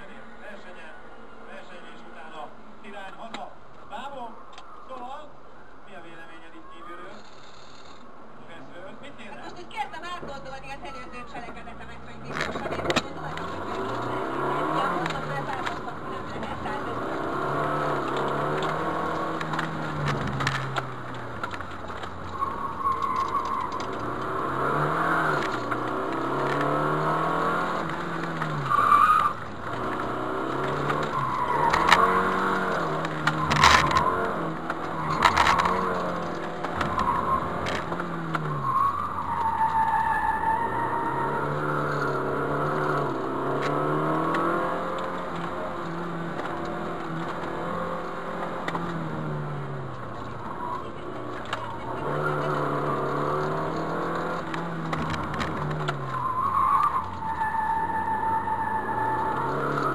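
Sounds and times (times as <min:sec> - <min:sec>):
tires squealing: 0:09.4 - 0:59.9
car engine revving: 0:11.7 - 0:59.9.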